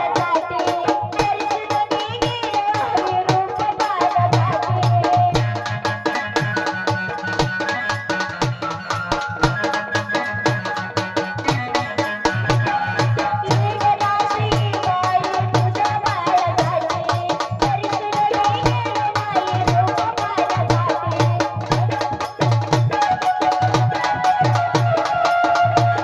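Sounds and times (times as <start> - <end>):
instrumental song with drum beat: 0.0 - 26.0.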